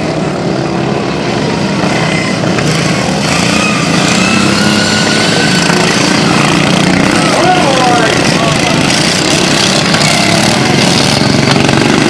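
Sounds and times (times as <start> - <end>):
lawn mower engines running: 0.0 - 12.0.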